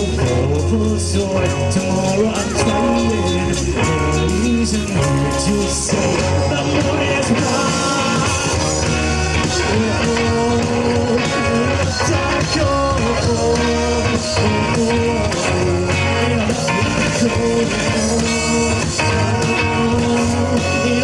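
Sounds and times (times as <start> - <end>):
electric guitar: 0.0 - 21.0
rock band playing: 0.0 - 21.0
steady drum beat: 0.0 - 21.0.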